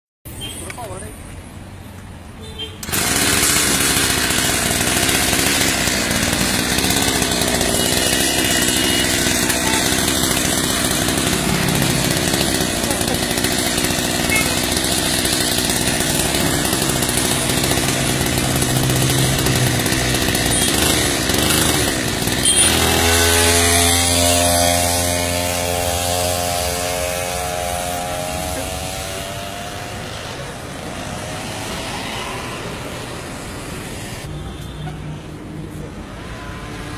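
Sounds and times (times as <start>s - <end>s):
mini motorbike engine running: 2.8s - 32.6s.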